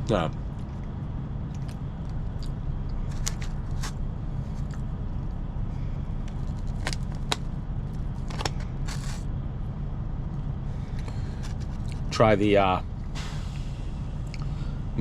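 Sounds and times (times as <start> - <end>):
engine idling hum: 0.0 - 15.0.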